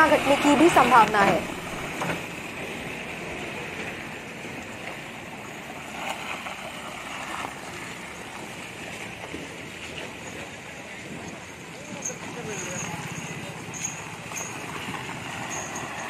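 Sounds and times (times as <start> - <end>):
truck driving through puddles: 0.0 - 16.0
vehicles passing on wet road: 0.0 - 16.0.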